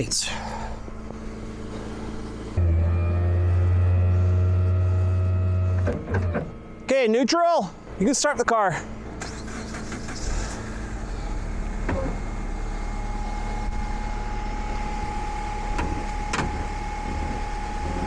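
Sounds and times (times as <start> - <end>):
car engine cranking and running: 0.0 - 18.0
steady whine: 0.0 - 18.0.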